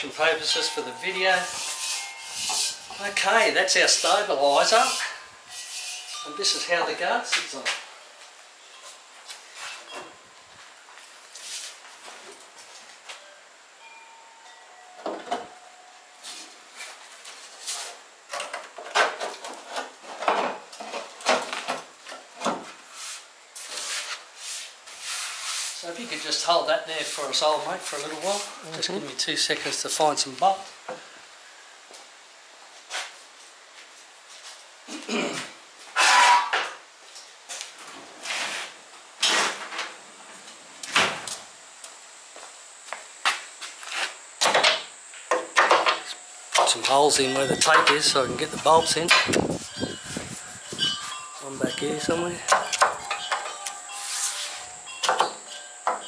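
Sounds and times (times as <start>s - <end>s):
scuffing and clunking in workshop: 0.1s - 13.3s, 16.2s - 31.2s, 31.8s - 56.0s.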